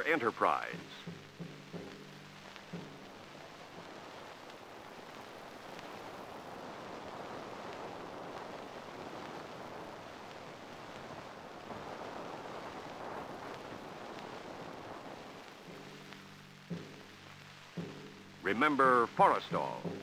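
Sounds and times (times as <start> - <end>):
fire crackling: 0.0 - 20.0
large fire rushing: 0.0 - 20.0.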